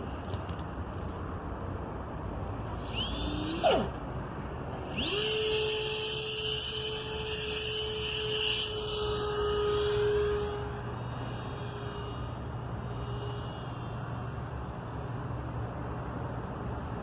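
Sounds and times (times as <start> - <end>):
electric ducted fan whining: 0.0 - 17.0.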